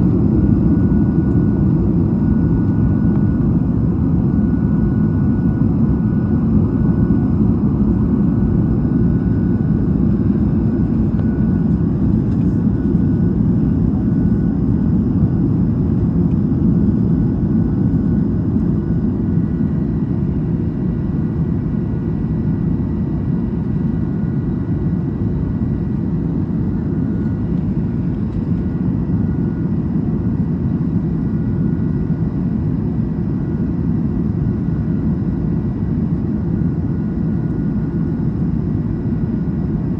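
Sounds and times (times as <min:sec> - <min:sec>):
aircraft cabin low rumble: 0:00.0 - 0:39.9.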